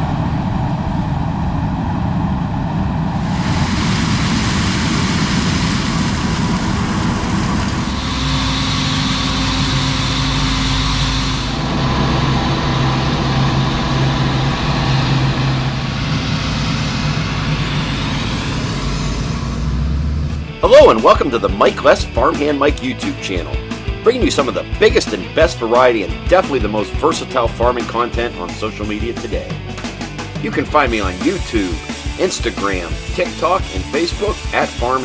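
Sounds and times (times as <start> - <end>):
diesel harvest machinery running: 0.0 - 35.0.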